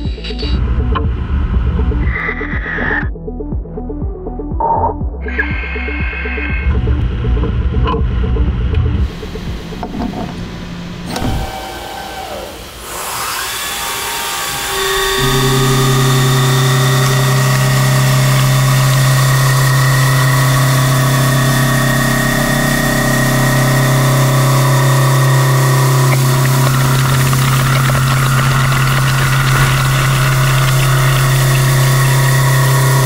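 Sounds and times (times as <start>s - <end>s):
milling machine cutting hum: 5.3s - 33.0s.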